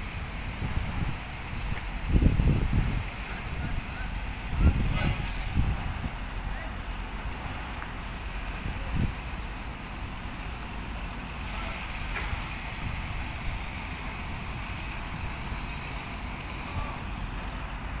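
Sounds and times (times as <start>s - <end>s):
construction site rumble and hiss: 0.0s - 18.0s.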